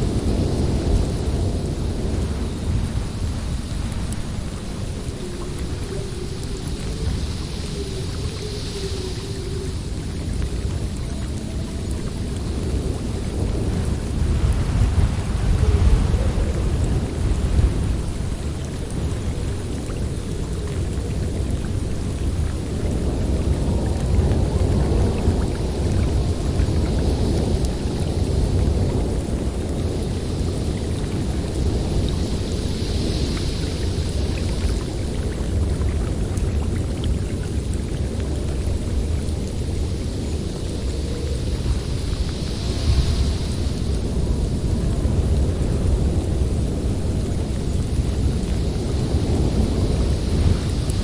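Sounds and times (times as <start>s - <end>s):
snowstorm wind blowing hard: 0.0s - 51.0s.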